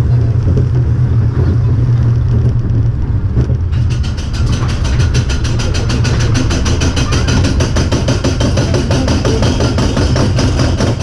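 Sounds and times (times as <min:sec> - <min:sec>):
roller coaster low rumble: 0:00.0 - 0:11.0
roller coaster track clicking: 0:00.0 - 0:11.0.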